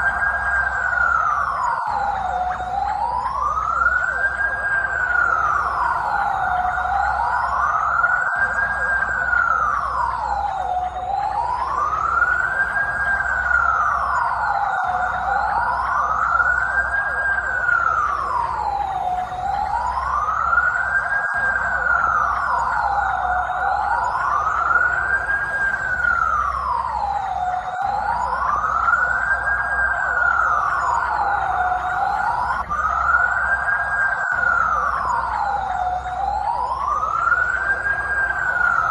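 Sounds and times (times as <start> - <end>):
emergency vehicle siren wailing: 0.0 - 38.9.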